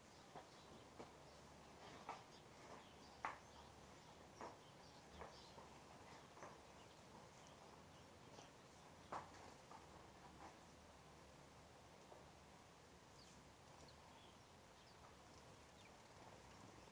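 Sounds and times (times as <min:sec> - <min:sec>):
small birds ticking: 0:00.1 - 0:16.9.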